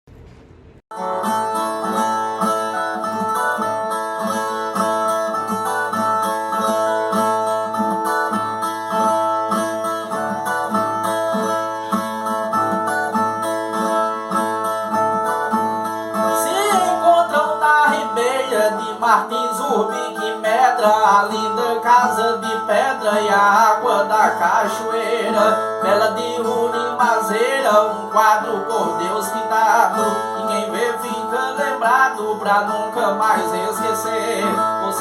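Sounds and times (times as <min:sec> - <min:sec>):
steel-string guitar plucked: 0:00.9 - 0:35.0.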